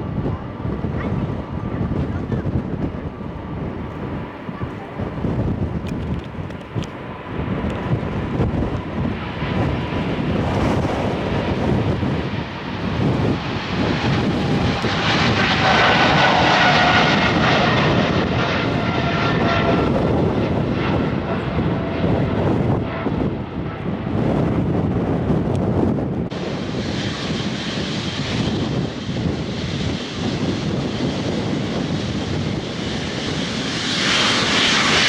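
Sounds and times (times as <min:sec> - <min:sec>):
jet engine whine: 0:00.0 - 0:35.0
jet engines roaring: 0:00.0 - 0:35.0.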